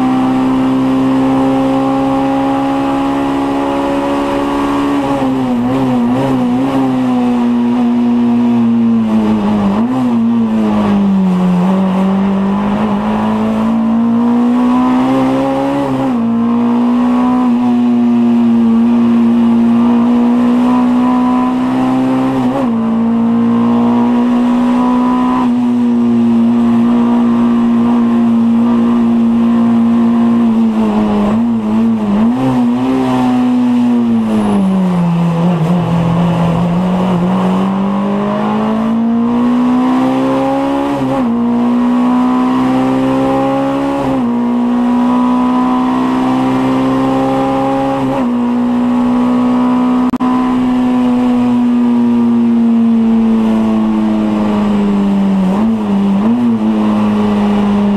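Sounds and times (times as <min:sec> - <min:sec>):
race car engine at high revs: 0:00.0 - 0:57.9.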